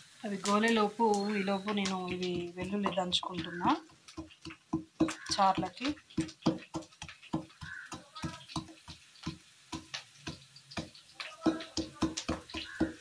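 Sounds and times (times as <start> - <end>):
pestle pounding in wooden mortar: 1.6 - 13.0.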